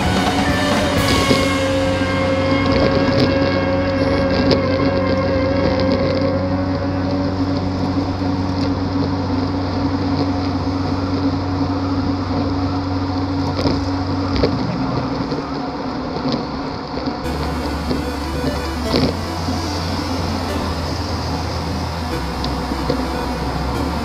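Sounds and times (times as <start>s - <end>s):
bike tyre noise: 0.0s - 24.0s
steady low hum: 0.0s - 24.0s.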